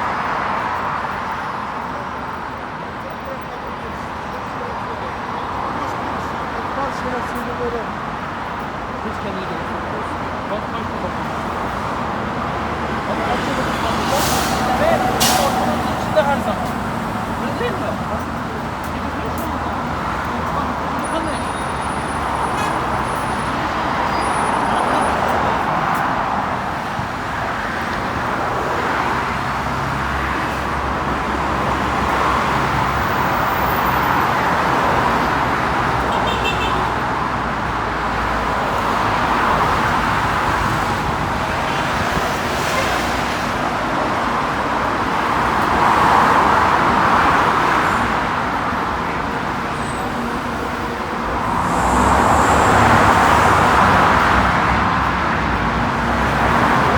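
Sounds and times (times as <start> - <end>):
road traffic noise: 0.0 - 56.9.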